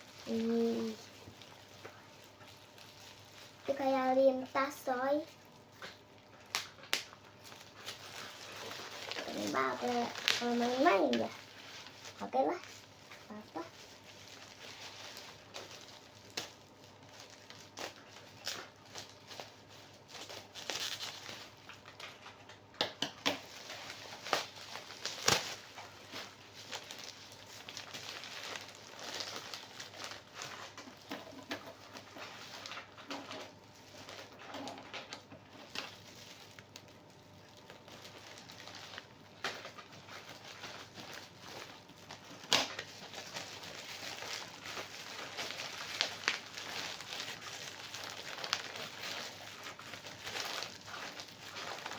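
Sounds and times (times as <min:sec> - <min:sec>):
packaging crinkling and rustling: 0:00.0 - 0:51.9.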